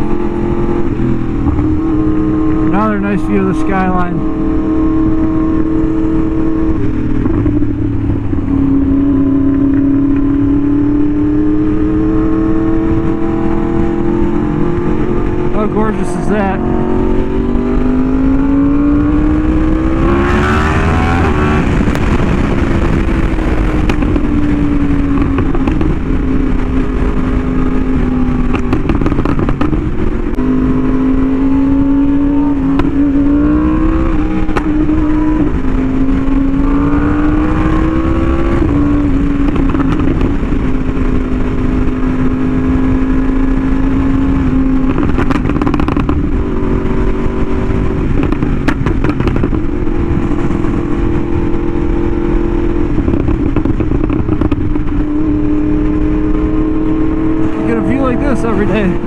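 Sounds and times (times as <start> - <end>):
motorcycle engine revving: 0.0 - 59.0
wind rumble on microphone: 0.0 - 59.0.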